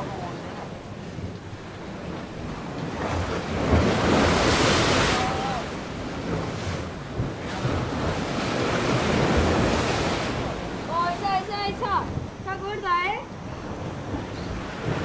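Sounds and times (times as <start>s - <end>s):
surf washing onto shore: 0.0s - 15.0s
wind noise on microphone: 0.0s - 15.0s.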